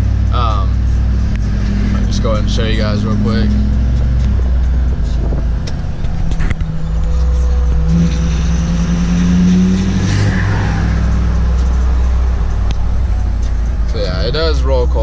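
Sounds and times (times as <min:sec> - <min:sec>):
diesel pickup engine accelerating: 0:00.0 - 0:15.0.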